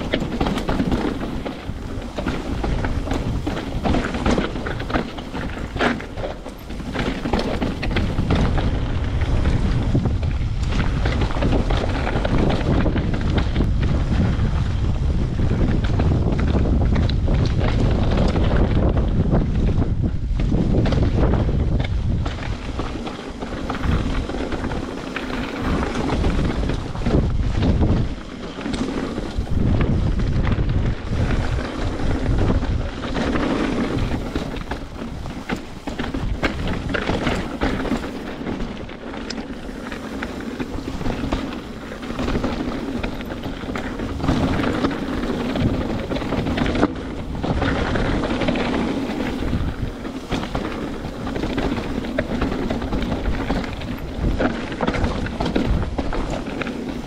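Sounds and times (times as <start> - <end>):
bike clattering over bumps: 0.0 - 57.0
tyres rolling on dirt and rock: 0.0 - 57.0
wind buffeting microphone: 0.0 - 57.0.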